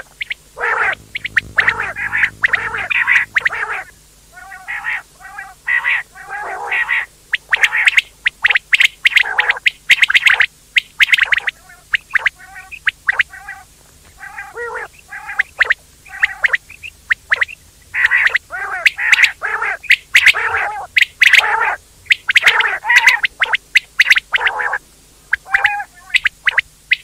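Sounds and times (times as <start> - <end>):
quails calling: 0.0 - 27.0.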